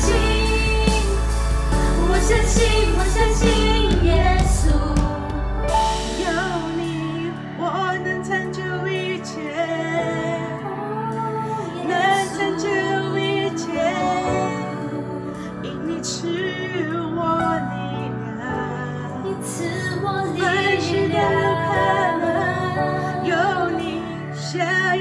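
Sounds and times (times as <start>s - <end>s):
instrumental backing: 0.0s - 25.0s
person singing slow melody: 0.0s - 25.0s.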